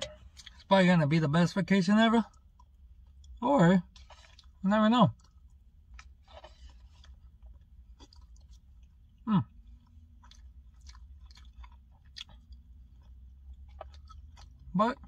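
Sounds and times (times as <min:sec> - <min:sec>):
person chewing food: 0:00.0 - 0:00.7, 0:02.2 - 0:15.0
low steady hum: 0:00.0 - 0:15.0.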